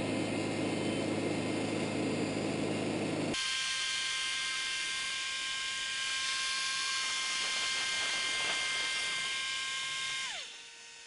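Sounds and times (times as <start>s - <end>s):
band sawmill cutting log: 0.0s - 11.0s.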